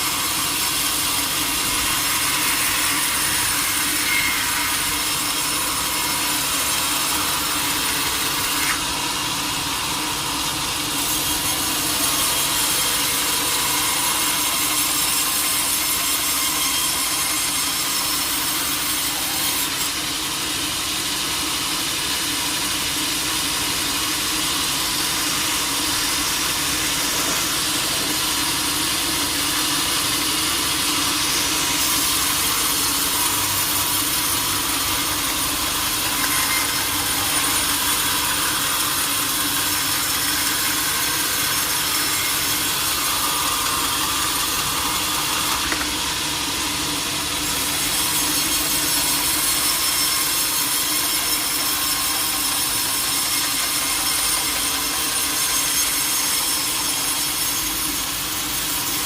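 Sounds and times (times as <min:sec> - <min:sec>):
saw cutting log: 0:00.0 - 0:59.0.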